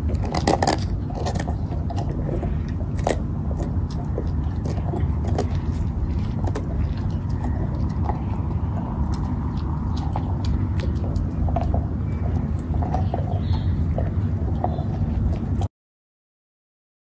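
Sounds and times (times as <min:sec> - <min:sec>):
dogs crunching carrots: 0:00.0 - 0:15.7
steady low rumble: 0:00.0 - 0:15.7.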